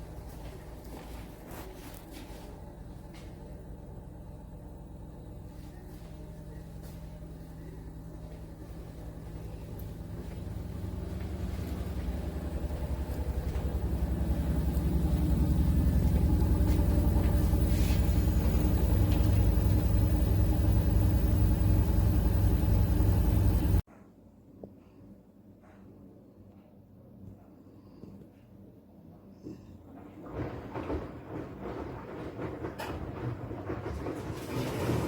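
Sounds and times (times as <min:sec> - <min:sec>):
washing machine drum spinning: 0:00.0 - 0:23.8, 0:30.2 - 0:35.0.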